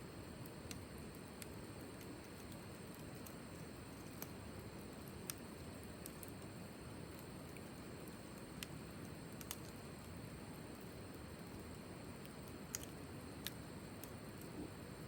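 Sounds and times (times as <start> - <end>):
wood fire crackling and popping: 0.2 - 15.0.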